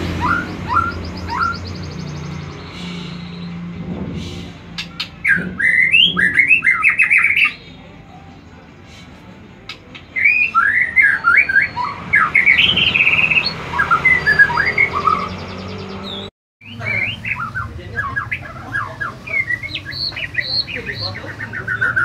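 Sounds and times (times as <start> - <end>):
bird singing whistled notes: 0.1 - 3.7, 4.8 - 7.9, 9.7 - 22.0.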